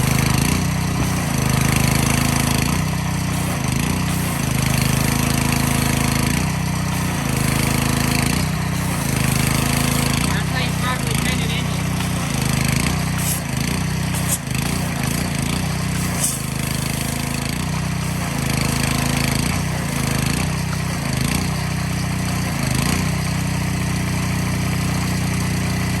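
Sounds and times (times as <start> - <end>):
pressure washer engine running: 0.0 - 26.0.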